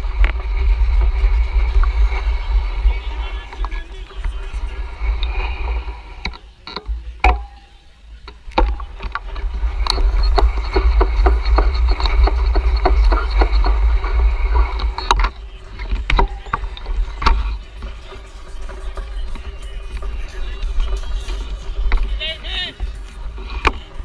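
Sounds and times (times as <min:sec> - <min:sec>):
bicycle ticking: 0:00.0 - 0:24.0
wind rumbling on microphone: 0:00.0 - 0:24.0.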